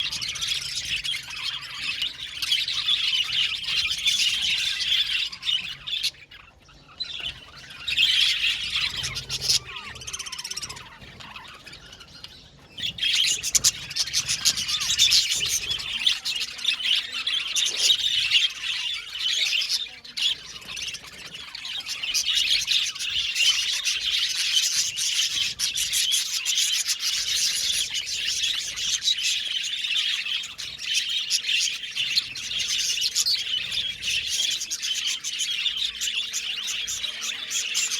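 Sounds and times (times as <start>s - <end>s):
budgerigars chirping and chattering: 0.0s - 37.9s.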